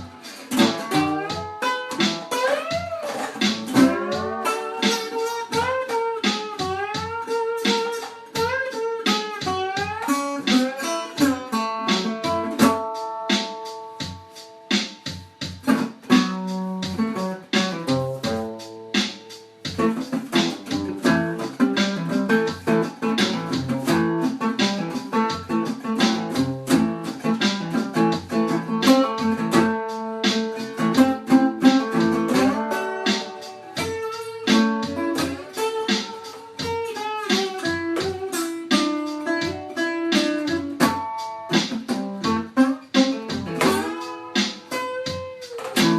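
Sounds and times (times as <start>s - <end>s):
plucked guitar music: 0.0s - 45.9s.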